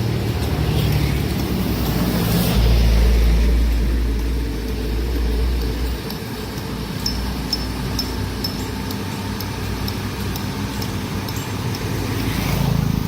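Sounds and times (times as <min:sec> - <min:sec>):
diesel engine rumbling under load: 0:00.0 - 0:13.0.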